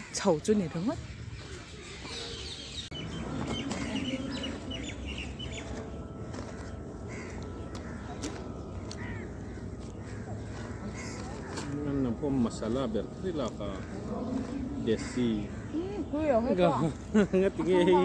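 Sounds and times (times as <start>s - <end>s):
birds chirping and calling: 0.0s - 18.0s
low outdoor background: 0.0s - 18.0s.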